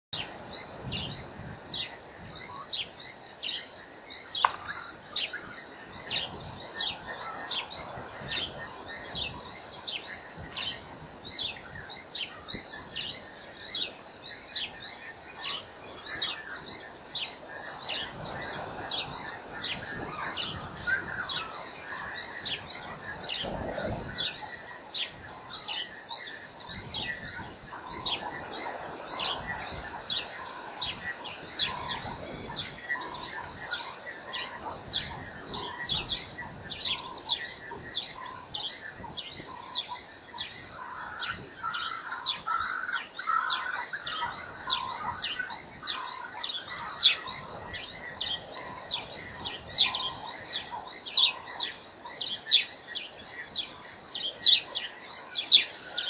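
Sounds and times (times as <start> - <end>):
low outdoor hiss: 0.2 - 56.0.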